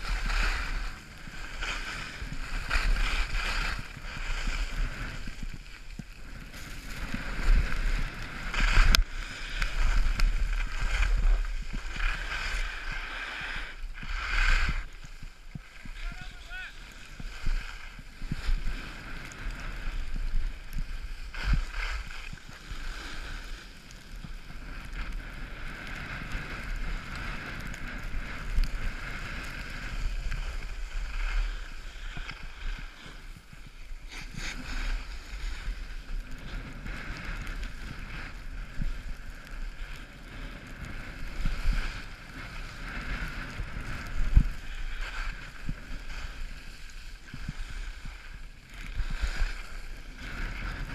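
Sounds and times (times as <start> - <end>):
skis sliding on snow: 0.0 - 50.9.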